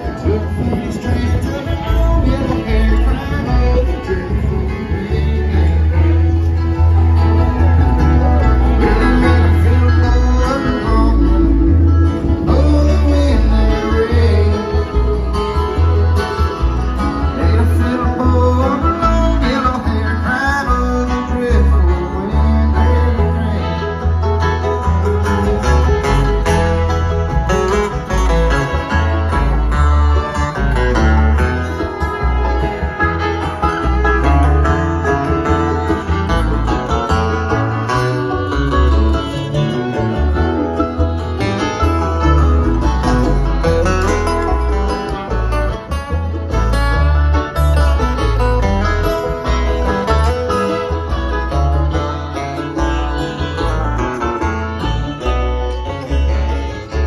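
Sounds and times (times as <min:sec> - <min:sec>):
acoustic guitar picking: 0:00.0 - 0:57.0
bluegrass band over pa: 0:00.0 - 0:57.0
heavy bass line: 0:00.0 - 0:57.0.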